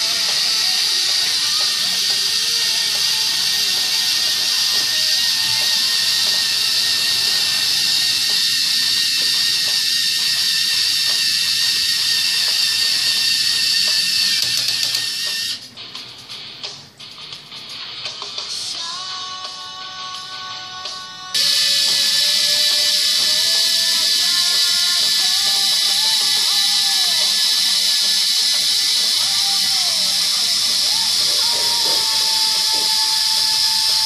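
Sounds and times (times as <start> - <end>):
electric motors whining: 0.0 - 15.6, 21.4 - 34.0.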